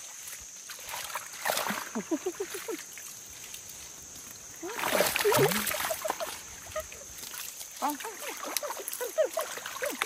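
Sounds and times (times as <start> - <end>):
splashing in muddy water: 0.0 - 10.0.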